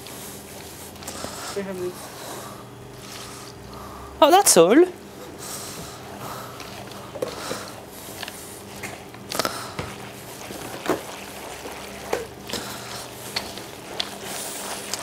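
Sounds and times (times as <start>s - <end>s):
hand squelching wet mixture: 0.0s - 4.1s, 5.9s - 15.0s
steady low hum: 0.0s - 15.0s.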